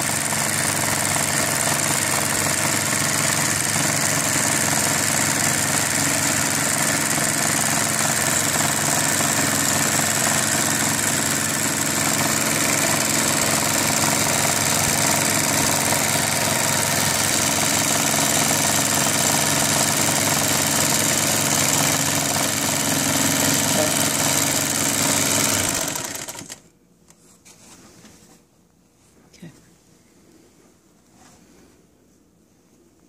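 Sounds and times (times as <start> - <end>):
sewing machine running: 0.0 - 26.6.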